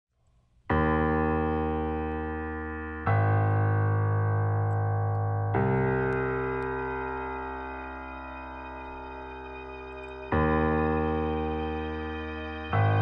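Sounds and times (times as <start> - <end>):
slow piano chords: 0.6 - 13.0.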